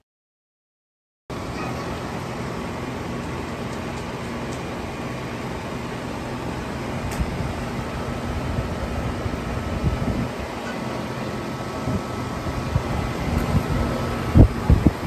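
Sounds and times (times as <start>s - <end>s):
condenser fan air rush: 1.3s - 15.0s.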